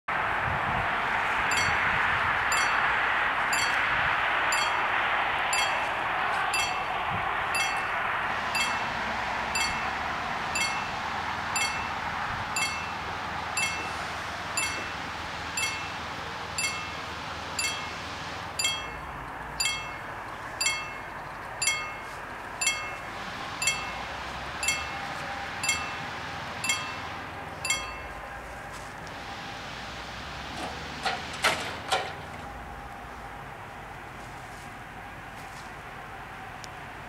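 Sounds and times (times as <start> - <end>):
level crossing warning bell: 1.4 - 5.9, 6.5 - 33.0.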